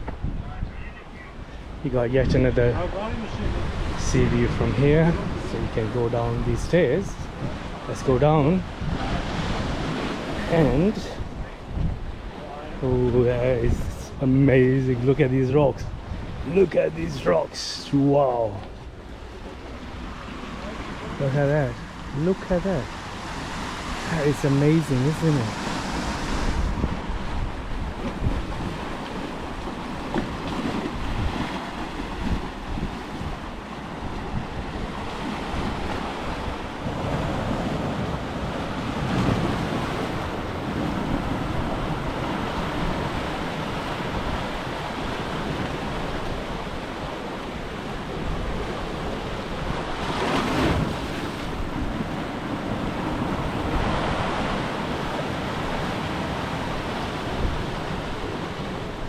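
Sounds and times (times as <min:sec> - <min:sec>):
wind buffeting microphone: 0:00.0 - 0:17.5, 0:18.4 - 0:59.0
waves breaking on rocks: 0:01.3 - 0:59.0.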